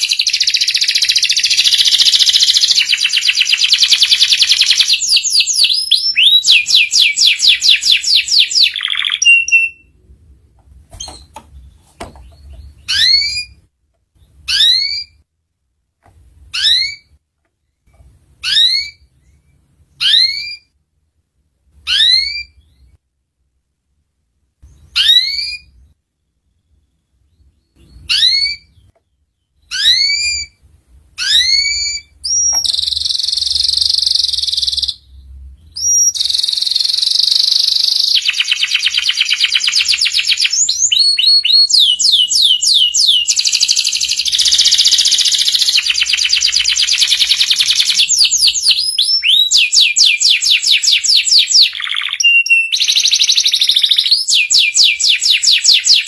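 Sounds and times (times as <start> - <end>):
canary singing trills: 0.0 - 10.0, 11.0 - 15.3, 16.4 - 20.8, 21.8 - 23.0, 24.6 - 56.0.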